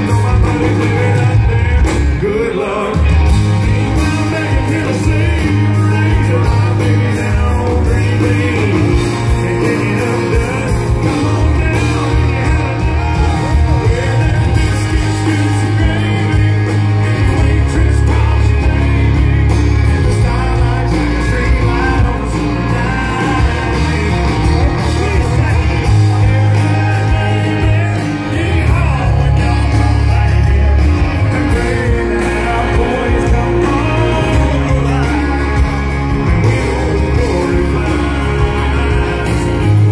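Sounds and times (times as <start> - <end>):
boomy bass: 0.0 - 39.9
lead singer singing: 0.0 - 39.9
live country band playing: 0.0 - 39.9.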